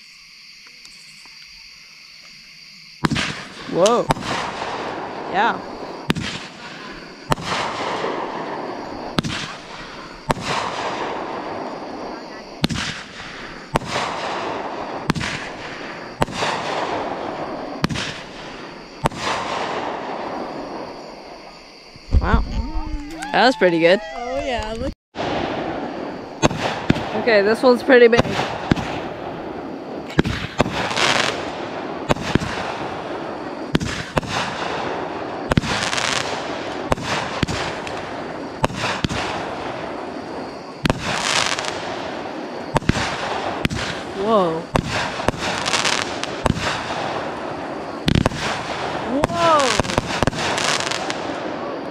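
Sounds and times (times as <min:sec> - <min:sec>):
fireworks bursting: 0:02.9 - 0:51.9.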